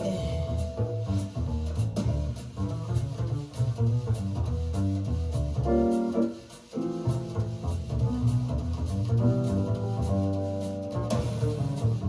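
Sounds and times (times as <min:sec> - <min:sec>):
jazz instrumental with bass: 0:00.0 - 0:12.0.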